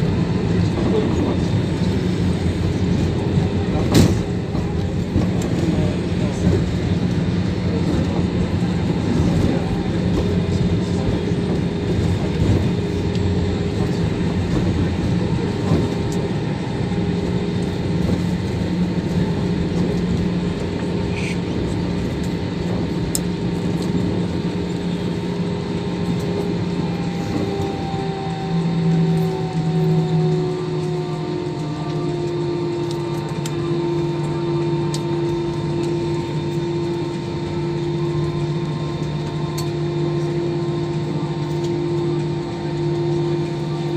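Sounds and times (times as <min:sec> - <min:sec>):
airliner engines droning: 0:00.0 - 0:43.9.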